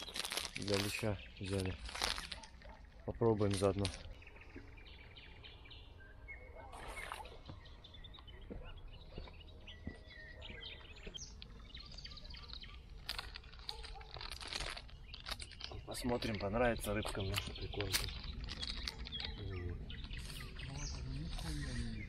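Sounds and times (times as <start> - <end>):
handling noises: 0.0 - 4.7, 6.7 - 21.4
birds chirping and trilling: 0.0 - 22.0.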